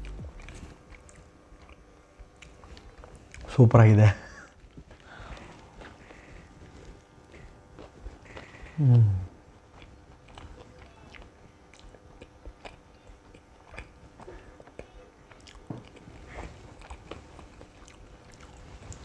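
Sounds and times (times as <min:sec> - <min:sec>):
crunching chewing: 0:00.0 - 0:03.5, 0:04.5 - 0:08.8, 0:09.4 - 0:19.0.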